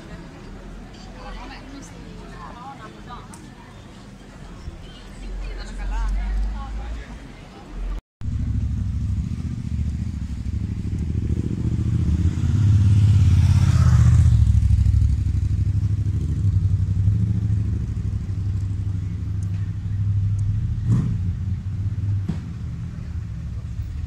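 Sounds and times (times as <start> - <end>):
vehicle engine rumbling: 3.8 - 24.0.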